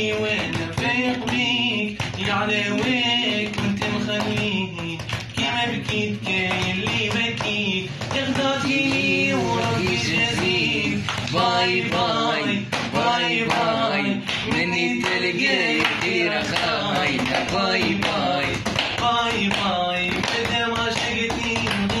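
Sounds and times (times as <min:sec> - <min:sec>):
hand claps beat: 0:00.0 - 0:22.0
young man singing: 0:00.0 - 0:22.0.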